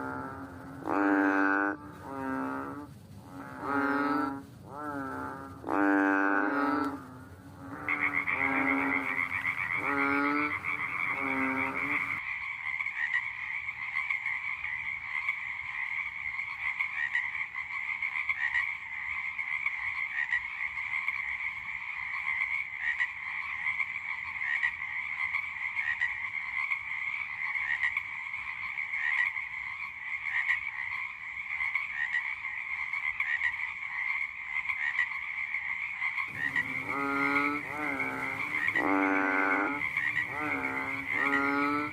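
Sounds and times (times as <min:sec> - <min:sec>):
frog croaking: 0:00.0 - 0:41.9.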